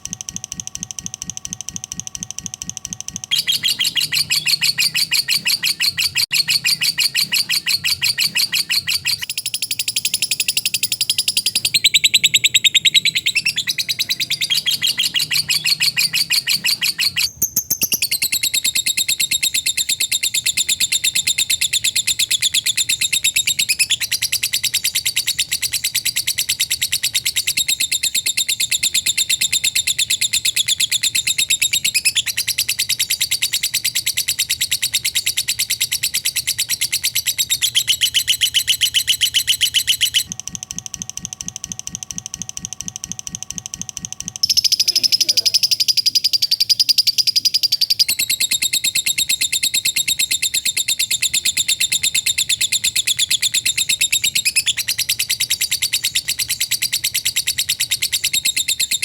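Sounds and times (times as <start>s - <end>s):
lovebird chattering trill: 2.5s - 40.3s, 43.8s - 59.0s.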